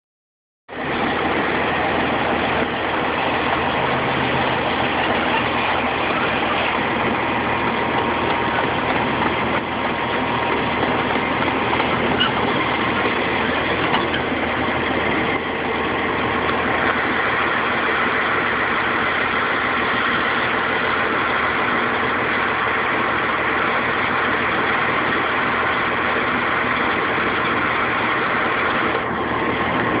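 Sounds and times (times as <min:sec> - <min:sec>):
heavy machine engine running: 0:00.7 - 0:30.0.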